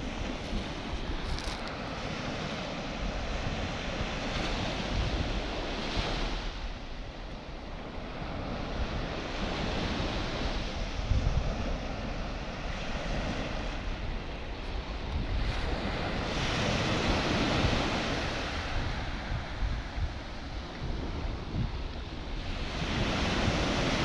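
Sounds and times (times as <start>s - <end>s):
sea waves breaking on beach: 0.0s - 24.0s
wind gusting on microphone: 0.0s - 24.0s.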